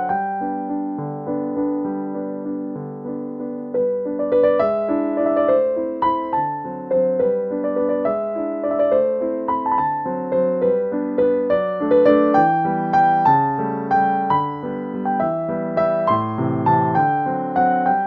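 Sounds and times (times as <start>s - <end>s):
light piano melody: 0.0s - 18.0s.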